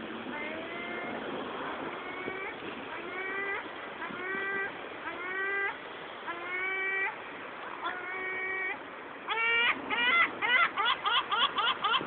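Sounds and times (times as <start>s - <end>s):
gull calling: 0.3s - 1.2s, 2.0s - 12.0s.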